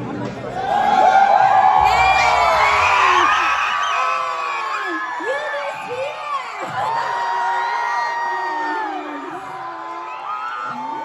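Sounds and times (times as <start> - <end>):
crowd screaming and cheering: 0.1 - 11.0.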